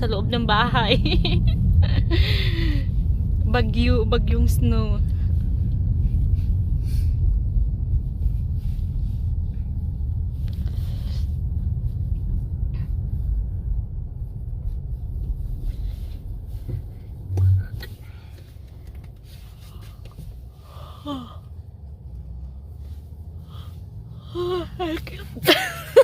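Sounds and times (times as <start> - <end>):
vehicle driving rumble from inside: 0.0 - 26.0.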